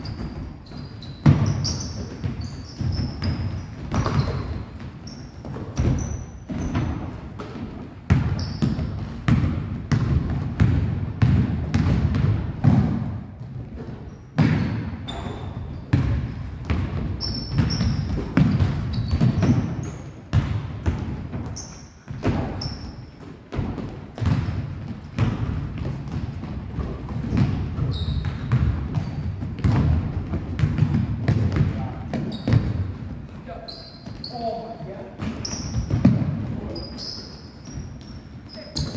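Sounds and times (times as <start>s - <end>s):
basketball bouncing on wooden floor: 0.0s - 33.4s, 35.2s - 37.0s
sneakers squeaking on floor: 0.0s - 38.9s.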